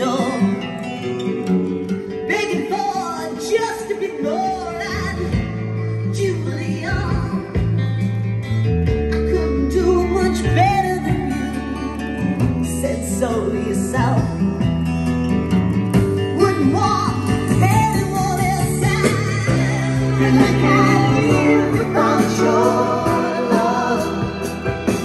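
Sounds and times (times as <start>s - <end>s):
song with singing and guitar: 0.0s - 25.0s.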